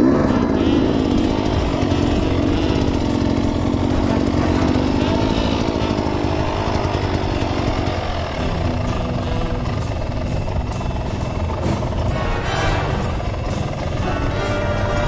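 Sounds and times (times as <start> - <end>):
motorcycle engine buzzing: 0.0 - 15.0.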